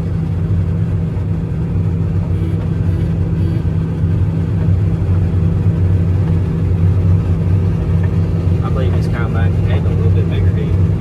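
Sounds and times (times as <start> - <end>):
combine harvester engine humming: 0.0 - 11.0.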